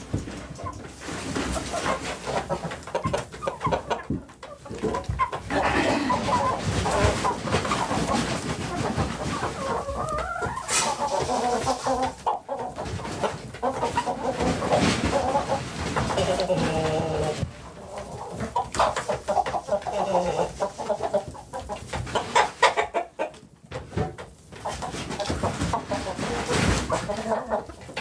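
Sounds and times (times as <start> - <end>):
knocks and rustles: 0.0 - 22.6, 23.6 - 28.0
chickens clucking: 0.0 - 28.0.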